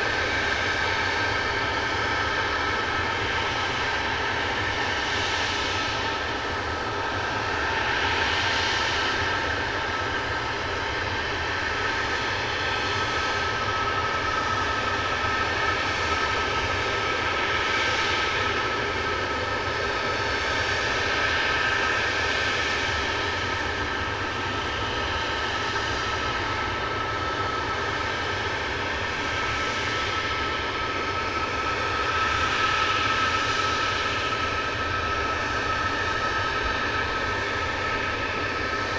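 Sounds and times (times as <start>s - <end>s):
jet engines idling: 0.0s - 38.9s.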